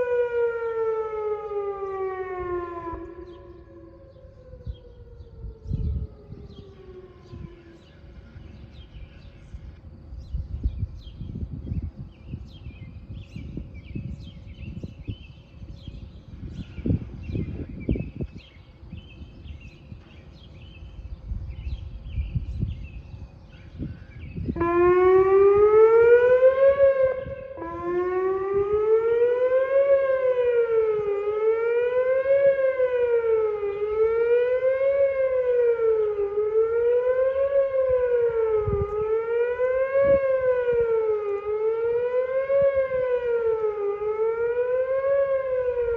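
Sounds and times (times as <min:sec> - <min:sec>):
warning siren wailing: 0:00.0 - 0:09.6, 0:15.4 - 0:20.5, 0:23.7 - 0:45.9
birds chirping: 0:01.3 - 0:38.4.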